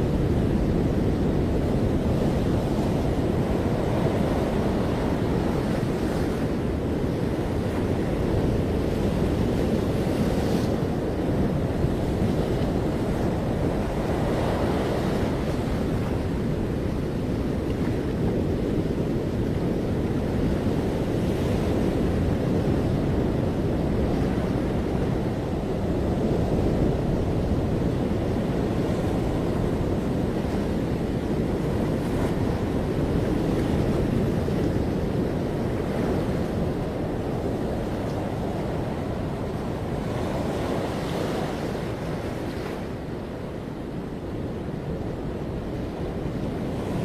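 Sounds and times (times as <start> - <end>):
ocean surf washing onto beach: 0.0 - 47.0
wind noise on microphone: 0.0 - 47.0.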